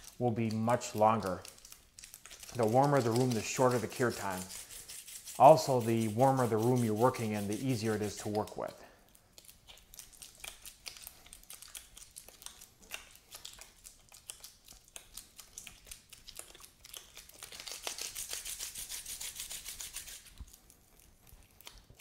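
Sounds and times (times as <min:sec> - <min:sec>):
gloves crinkling kneading putty: 0:00.0 - 0:22.0.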